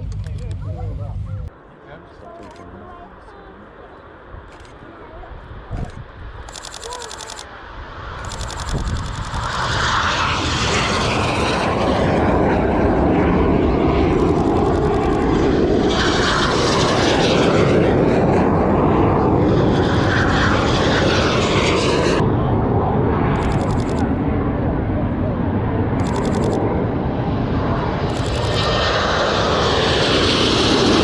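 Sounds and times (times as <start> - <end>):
aircraft engine: 0.0 - 31.0.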